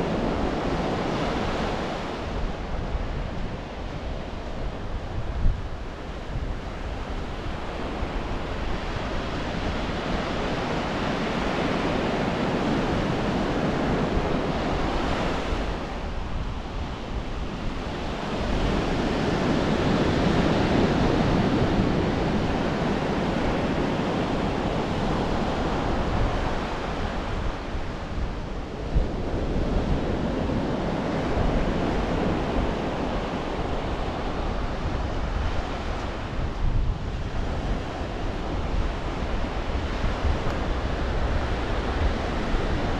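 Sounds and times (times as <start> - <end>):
ocean surf breaking on beach: 0.0 - 42.9
wind on microphone: 0.0 - 42.9.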